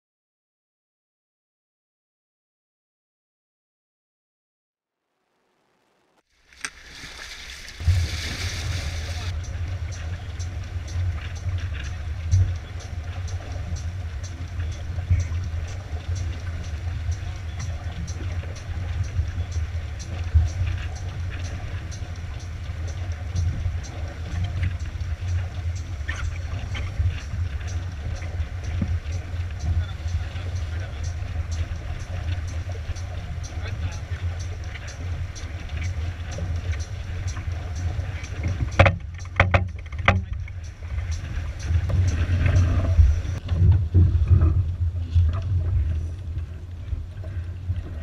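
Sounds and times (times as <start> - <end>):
steady low rumble: 5.1 - 48.0
water rushing along hull: 5.3 - 48.0
wind buffeting microphone: 7.7 - 48.0.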